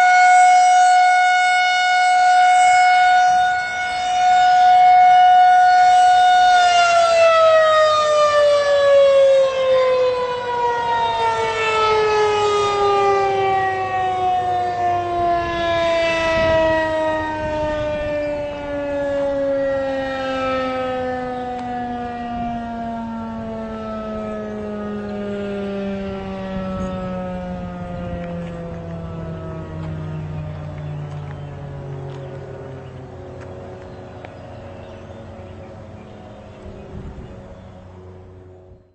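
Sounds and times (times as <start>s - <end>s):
warning siren winding down: 0.0s - 38.9s.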